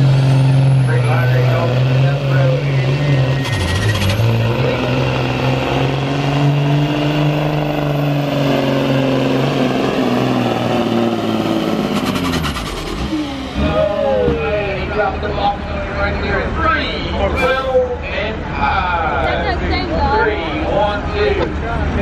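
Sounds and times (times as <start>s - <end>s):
truck diesel engine under load: 0.0s - 22.0s.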